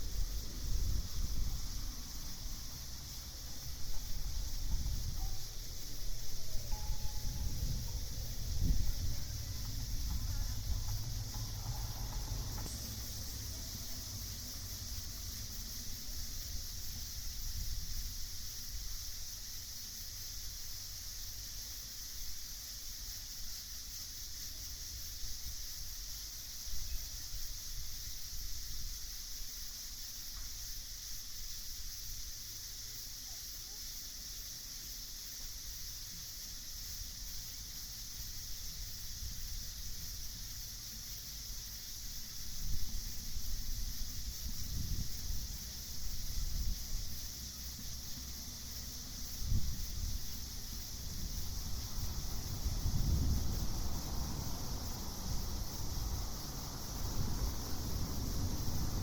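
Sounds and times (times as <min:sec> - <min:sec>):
insects shrilling: 0:00.0 - 0:59.0.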